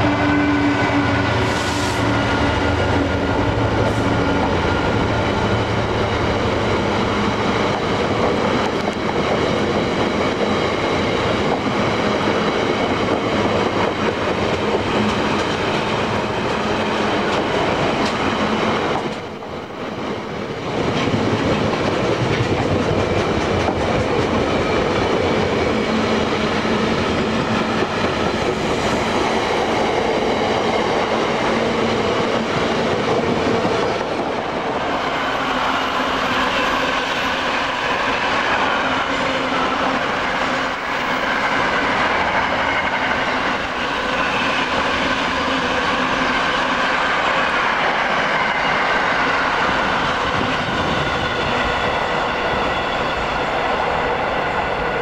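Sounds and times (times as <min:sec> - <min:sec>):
freight train passing: 0:00.0 - 0:55.0.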